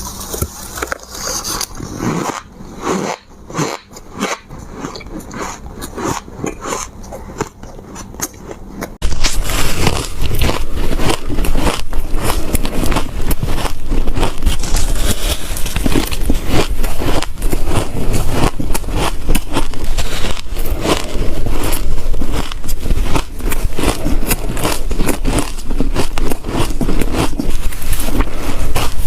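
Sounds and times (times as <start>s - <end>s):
ice crunching between teeth: 1.2s - 29.0s.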